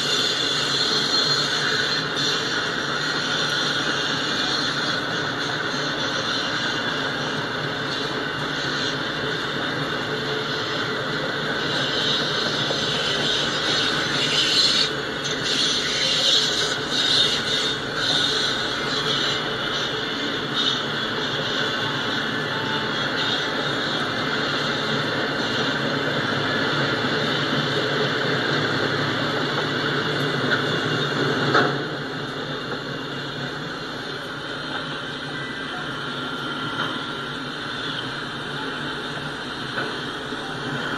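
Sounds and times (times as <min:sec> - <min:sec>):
hiss: 0:00.0 - 0:40.9
train wheels rumbling on rail: 0:00.0 - 0:40.9.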